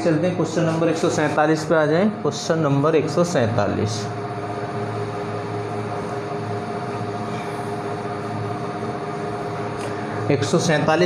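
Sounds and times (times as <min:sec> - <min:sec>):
fan whooshing hum: 0:00.0 - 0:11.0.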